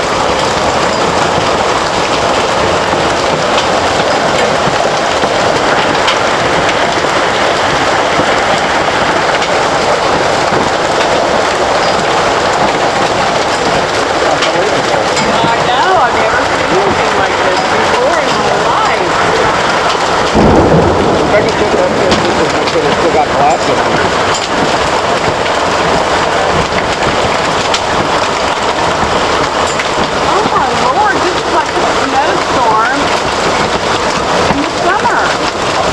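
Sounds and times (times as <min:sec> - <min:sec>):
hailstones ticking on hard surfaces: 0:00.0 - 0:35.9
heavy hail and rain: 0:00.0 - 0:35.9.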